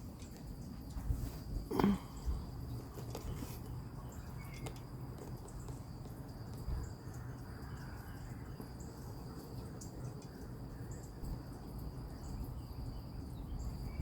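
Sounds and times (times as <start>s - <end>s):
insects trilling: 0.0s - 14.0s
low outdoor rumble: 0.0s - 14.0s.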